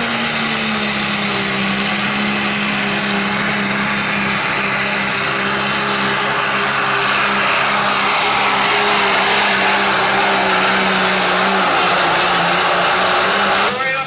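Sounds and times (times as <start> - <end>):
vehicle engine running at high revs: 0.0 - 14.0.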